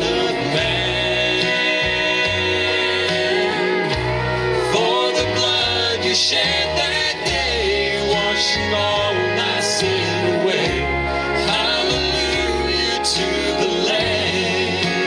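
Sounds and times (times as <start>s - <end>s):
bass line: 0.0s - 15.0s
guitar: 0.0s - 15.0s
person singing: 0.0s - 15.0s.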